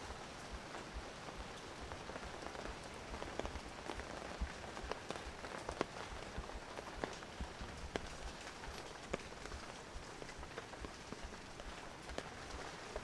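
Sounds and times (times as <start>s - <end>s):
raindrops tapping hard surfaces: 0.0s - 13.0s
steady rain falling: 0.0s - 13.0s.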